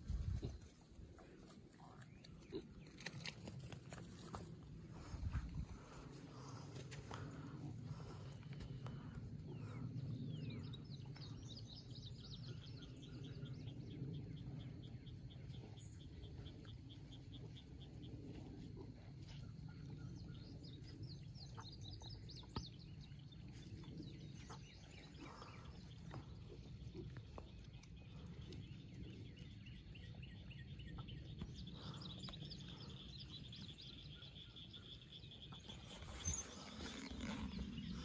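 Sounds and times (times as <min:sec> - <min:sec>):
low outdoor rumble: 0:00.0 - 0:38.0
small birds chirping and singing: 0:00.1 - 0:38.0.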